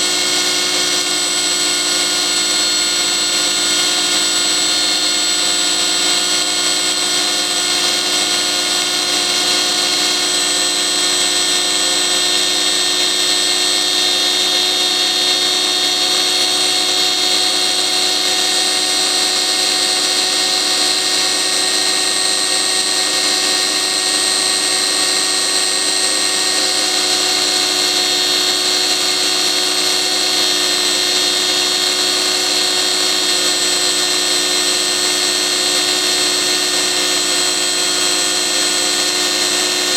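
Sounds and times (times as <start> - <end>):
electric motor whining: 0.0 - 39.9.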